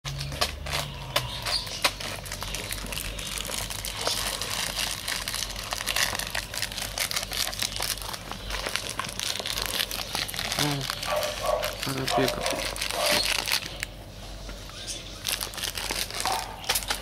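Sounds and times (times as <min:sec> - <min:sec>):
crackling and rustling noise: 0:00.1 - 0:17.0.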